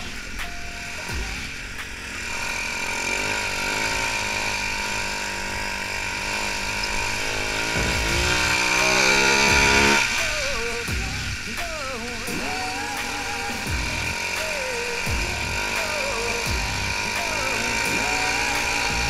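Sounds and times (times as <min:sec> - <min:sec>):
atv engine accelerating: 0:00.0 - 0:19.0.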